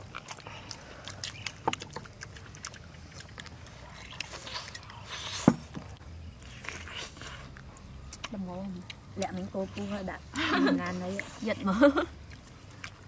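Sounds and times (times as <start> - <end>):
person chewing pepper: 0.0 - 13.0.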